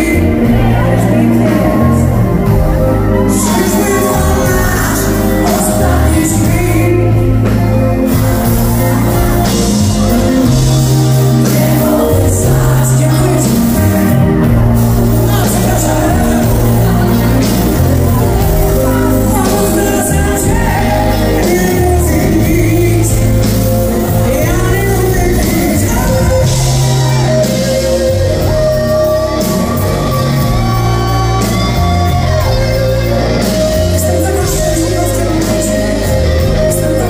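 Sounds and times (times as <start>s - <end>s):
live rock band playing: 0.0s - 37.0s.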